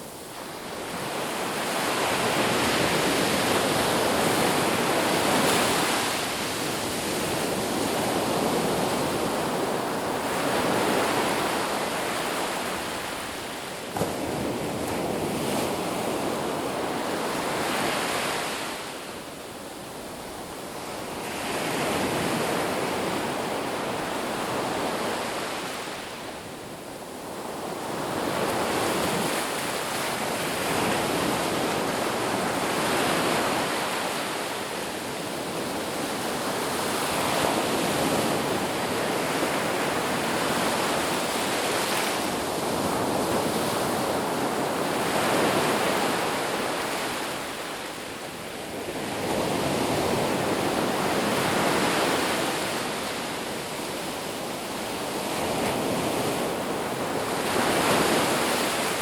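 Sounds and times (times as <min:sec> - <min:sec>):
ocean surf washing onto beach: 0:00.0 - 0:59.0.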